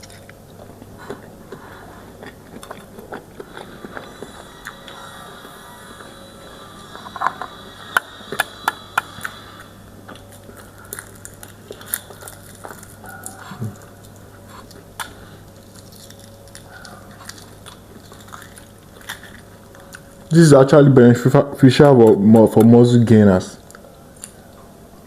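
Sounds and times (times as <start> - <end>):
person chewing: 0.0 - 20.3
low steady hum: 0.0 - 25.0.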